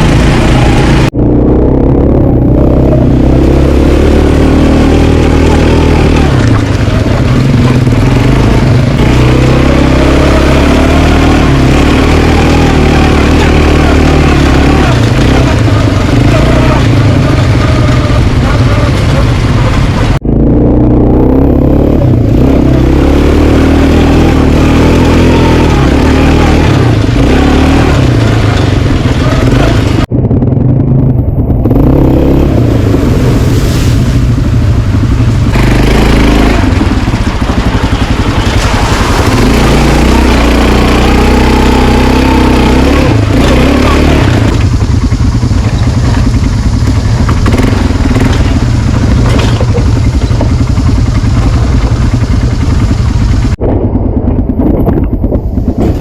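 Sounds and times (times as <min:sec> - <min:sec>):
quad bike engine revving: 0:00.0 - 0:55.1.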